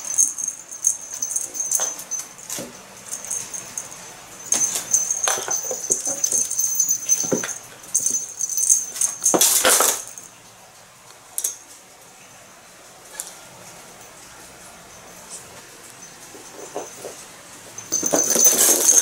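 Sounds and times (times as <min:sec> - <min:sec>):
collar bell jingling: 0:00.0 - 0:10.5, 0:13.1 - 0:19.0.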